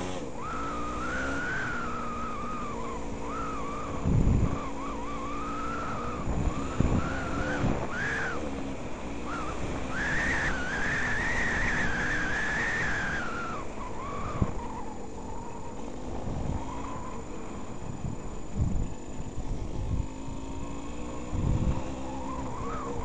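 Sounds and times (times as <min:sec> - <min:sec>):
motorcycle engine revving: 0:00.0 - 0:23.0
wind buffeting microphone: 0:02.9 - 0:15.4, 0:16.1 - 0:23.0.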